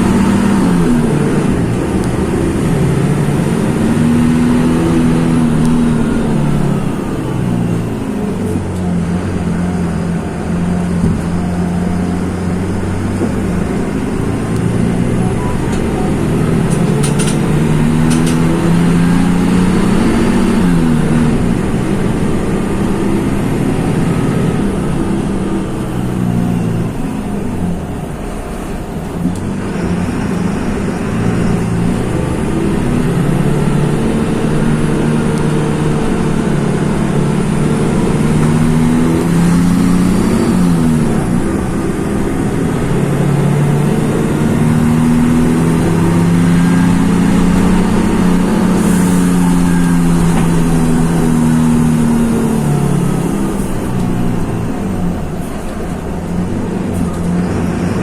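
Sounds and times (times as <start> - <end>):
bus diesel engine under load: 0.0 - 58.0.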